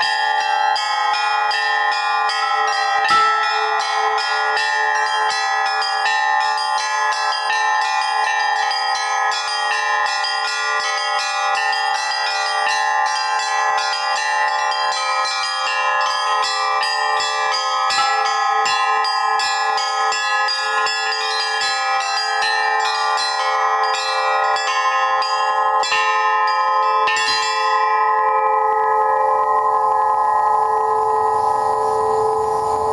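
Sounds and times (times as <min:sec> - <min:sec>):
larger bells ringing: 0:00.0 - 0:32.9
small bells struck in fast run: 0:00.0 - 0:32.9.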